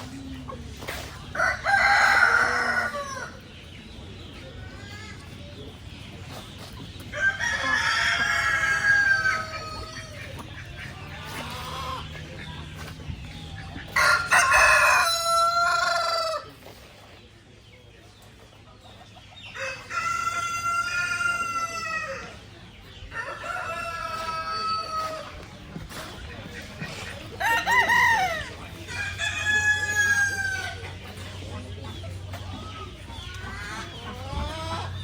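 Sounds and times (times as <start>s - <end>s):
roosters crowing: 0.3s - 3.6s, 7.1s - 16.8s, 19.4s - 35.0s.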